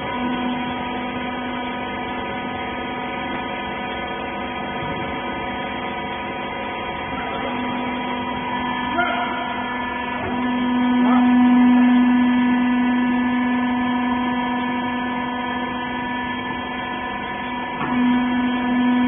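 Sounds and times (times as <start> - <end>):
hydraulic power unit humming: 0.0 - 19.0.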